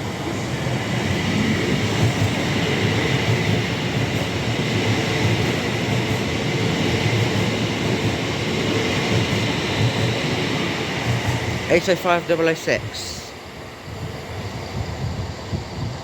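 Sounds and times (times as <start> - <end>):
train passing with rail noise: 0.0 - 16.0.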